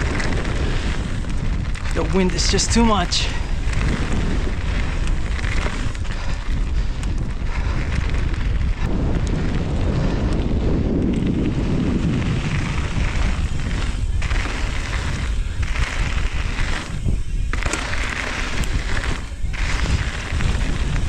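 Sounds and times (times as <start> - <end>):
bike clicks and rattles: 0.0 - 21.0
tyre and trail noise: 0.0 - 21.0
wind buffeting microphone: 0.0 - 21.0.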